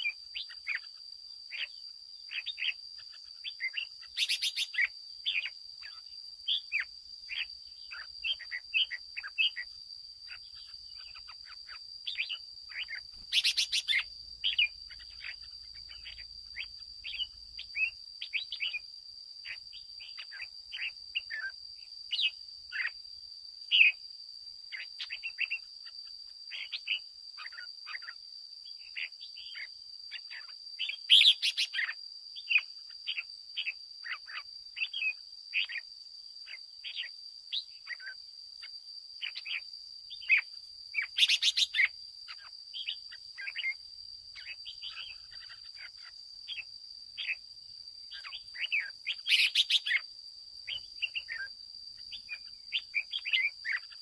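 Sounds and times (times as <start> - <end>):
bulbul singing and calling: 0.0 - 9.7, 10.3 - 23.0, 23.7 - 24.0, 24.7 - 47.4, 48.1 - 54.0.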